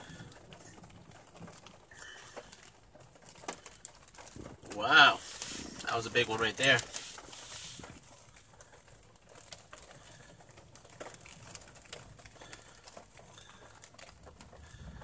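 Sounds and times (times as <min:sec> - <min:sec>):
raindrops ticking on car: 0:00.0 - 0:15.0.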